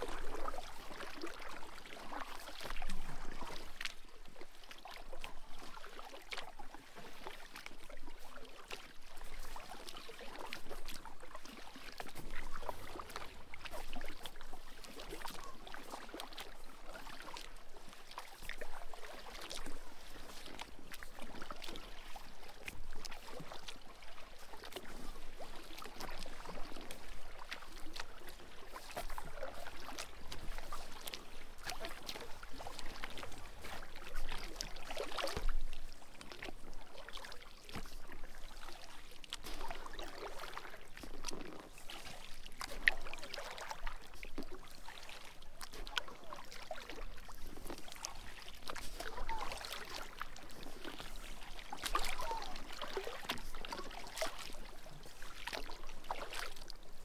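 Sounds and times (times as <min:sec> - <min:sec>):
small water splashes: 0:00.0 - 0:57.0
water lapping against kayak: 0:00.0 - 0:57.0.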